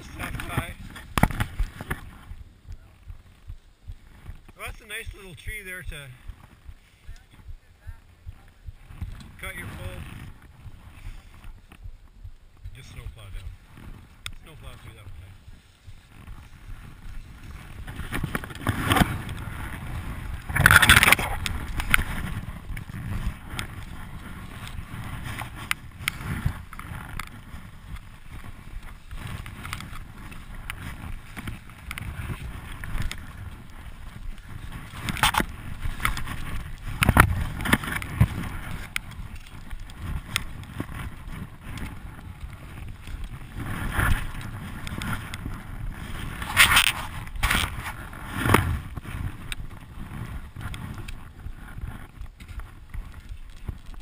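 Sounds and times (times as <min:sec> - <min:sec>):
skis swishing through snow: 0:00.0 - 0:54.0.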